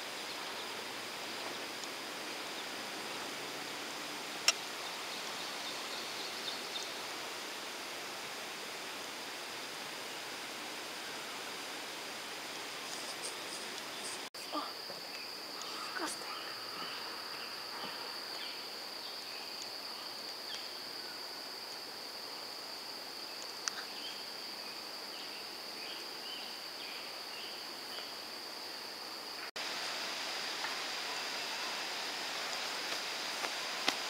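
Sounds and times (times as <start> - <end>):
outdoor rushing hiss: 0.0 - 34.0.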